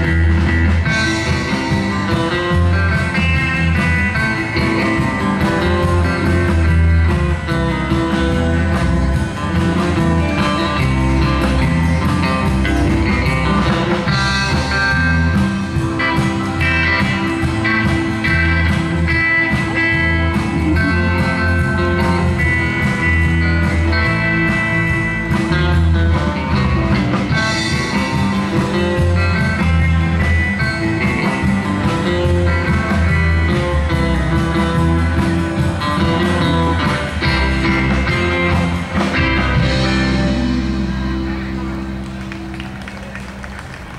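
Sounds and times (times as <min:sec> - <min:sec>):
drum kit: 0:00.0 - 0:43.9
electric bass guitar: 0:00.0 - 0:43.9
electric guitars: 0:00.0 - 0:43.9.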